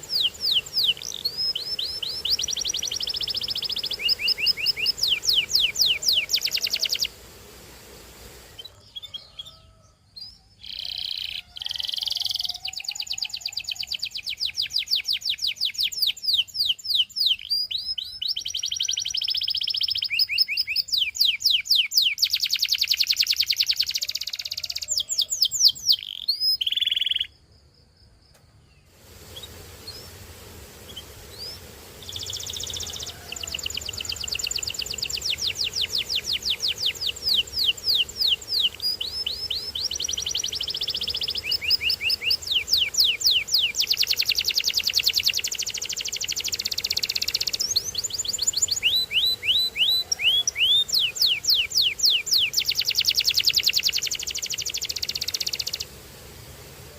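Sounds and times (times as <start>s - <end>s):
canary singing trills: 0.0s - 7.2s, 8.4s - 27.4s, 30.8s - 56.0s.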